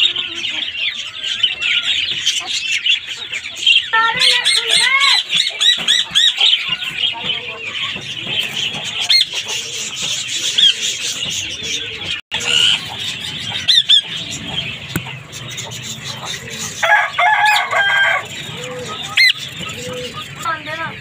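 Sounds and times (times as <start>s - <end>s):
bird chatter: 0.0s - 21.0s
parakeets screeching: 0.0s - 21.0s.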